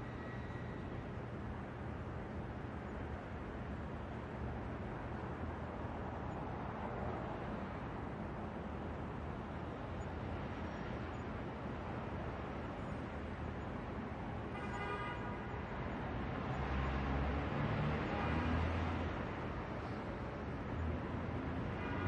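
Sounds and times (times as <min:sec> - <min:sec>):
street traffic road noise: 0:00.0 - 0:22.0.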